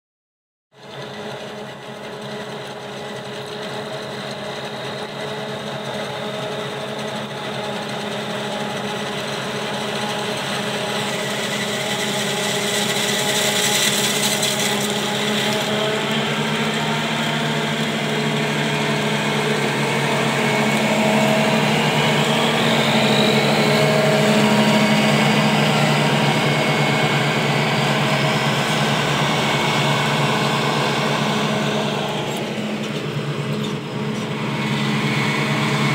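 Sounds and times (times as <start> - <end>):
forage harvester droning: 0.8 - 35.9
truck engine running: 0.8 - 35.9.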